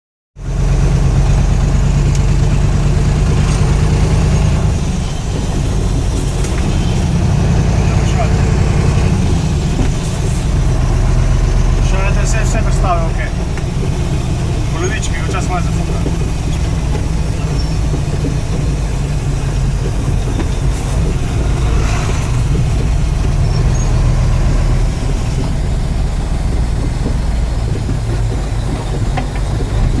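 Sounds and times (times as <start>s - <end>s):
truck diesel engine running: 0.4s - 30.0s.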